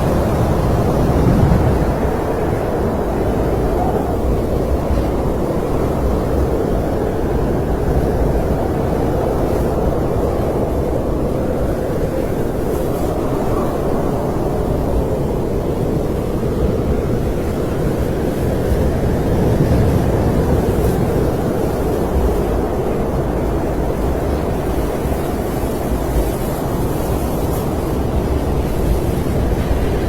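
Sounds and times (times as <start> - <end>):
snowstorm wind rushing: 0.0 - 30.0.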